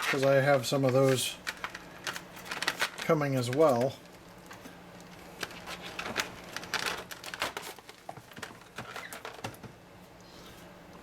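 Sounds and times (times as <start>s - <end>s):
plastic packaging rustling: 0.0s - 9.7s.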